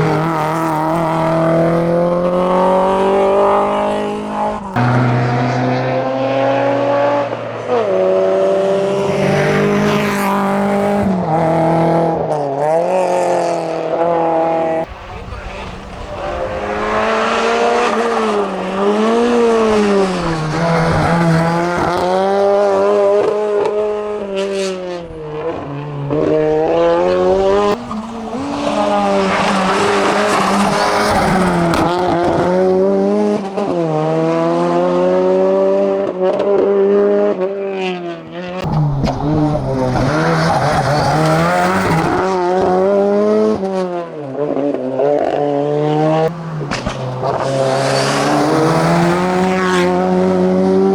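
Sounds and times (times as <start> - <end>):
race car engine revving: 0.0 - 50.9.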